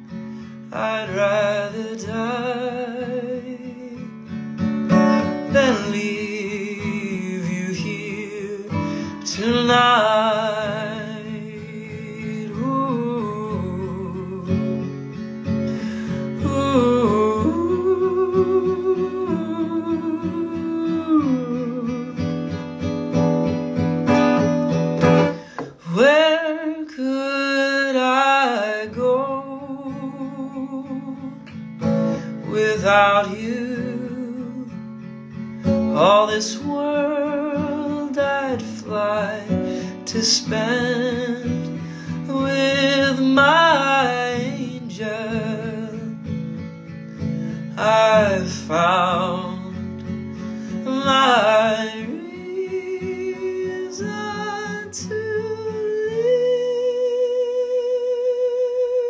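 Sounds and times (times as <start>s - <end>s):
man singing: 0.0s - 22.6s, 25.1s - 59.0s
strummed acoustic guitar: 0.0s - 59.0s.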